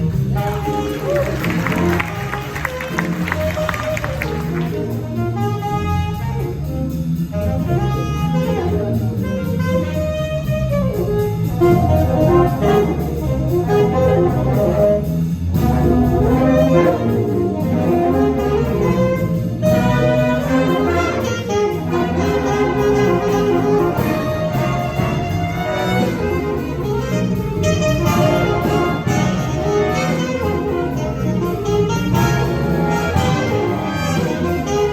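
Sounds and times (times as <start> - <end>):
big band playing swing: 0.0 - 34.9
drums: 0.0 - 34.9
saxophones and brass: 0.0 - 34.9
walking bass line: 0.0 - 34.9.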